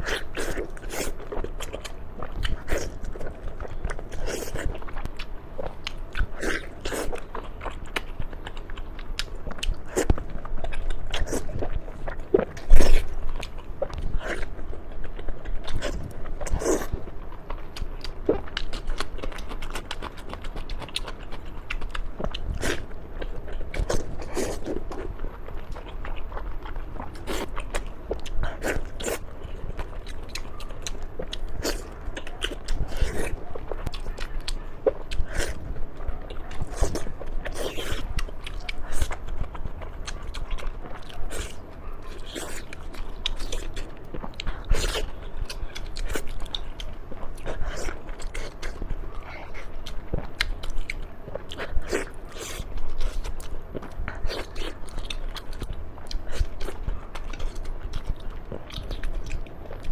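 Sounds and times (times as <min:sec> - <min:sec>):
person chewing with mouth clicks: 0:00.0 - 0:59.9.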